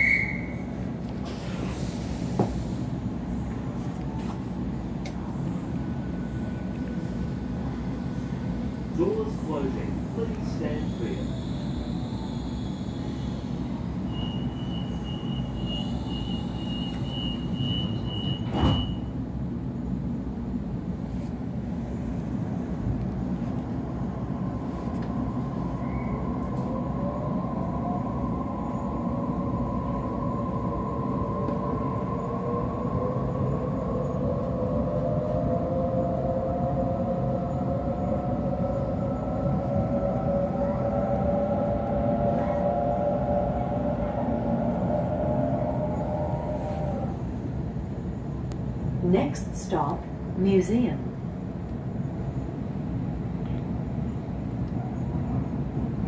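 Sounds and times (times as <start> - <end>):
low train rumble: 0.0 - 56.0.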